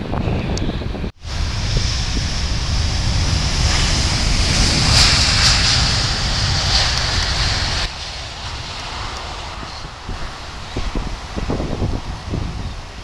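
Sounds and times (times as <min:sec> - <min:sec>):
wind buffeting microphone: 0:00.0 - 0:13.0
loud rushing noise: 0:01.2 - 0:13.0.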